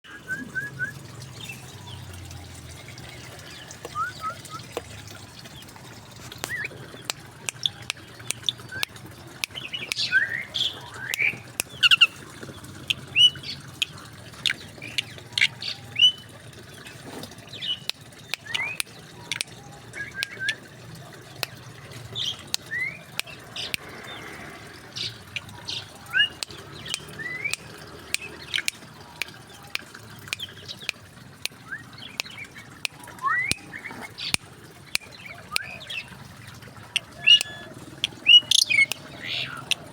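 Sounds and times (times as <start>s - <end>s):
birds chirping and calling: 0.1s - 39.9s.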